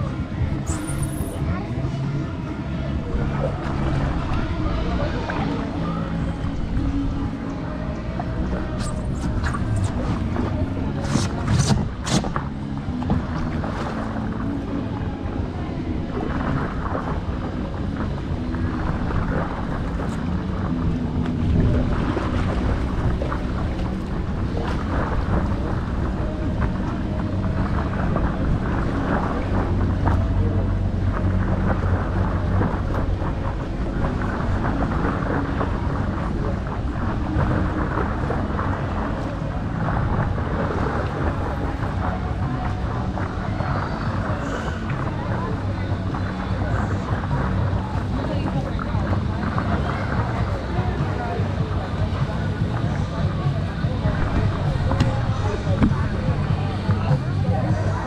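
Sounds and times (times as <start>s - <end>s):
water lapping and splashing: 0.0s - 58.0s
wind buffeting a microphone: 1.4s - 58.0s.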